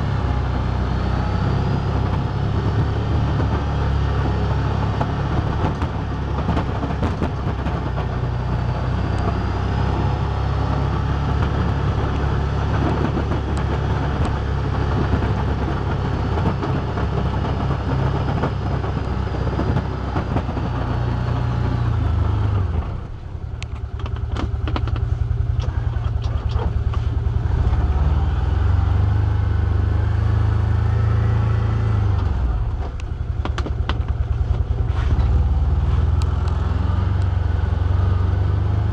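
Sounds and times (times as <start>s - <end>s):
engine running: 0.0s - 38.9s
plow pushing snow: 0.0s - 38.9s.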